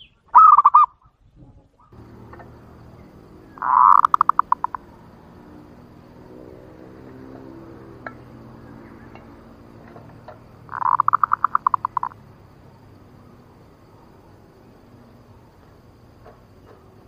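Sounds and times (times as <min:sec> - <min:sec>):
dove call pulses: 0:00.0 - 0:01.0, 0:01.8 - 0:17.0.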